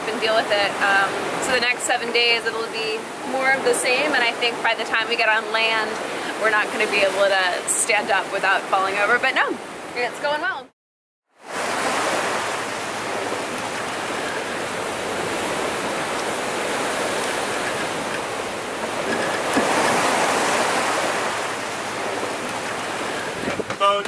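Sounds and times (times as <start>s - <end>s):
ocean waves rushing: 0.0s - 10.5s, 11.4s - 24.0s.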